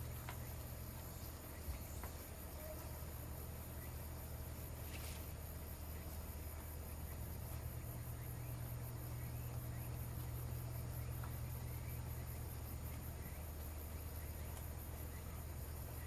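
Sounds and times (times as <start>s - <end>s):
insects chirping: 0.0s - 16.0s
steady low hum: 0.0s - 16.0s.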